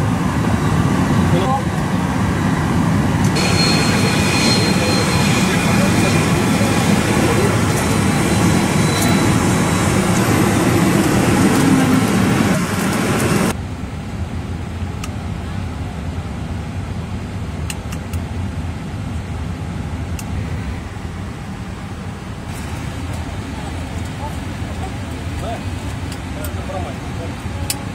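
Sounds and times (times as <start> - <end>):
jet engine noise: 0.0 - 27.9.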